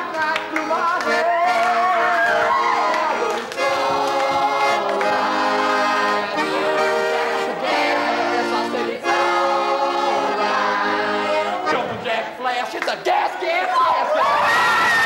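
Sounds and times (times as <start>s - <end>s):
accordion playing chords: 0.0s - 12.2s.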